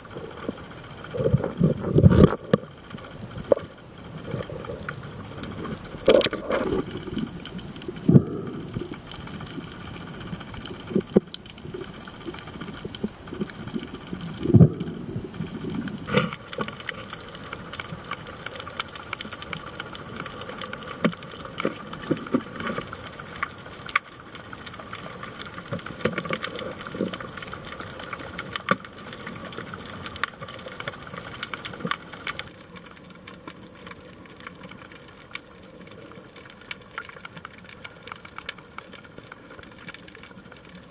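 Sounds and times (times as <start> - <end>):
underwater hiss: 0.0 - 33.1.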